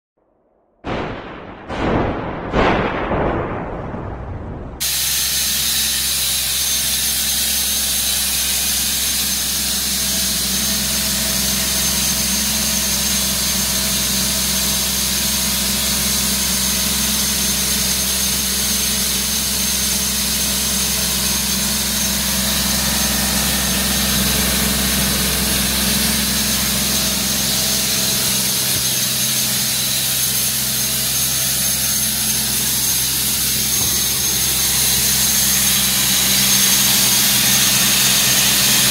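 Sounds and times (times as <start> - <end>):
air compressor diesel engine drone: 2.2 - 38.9.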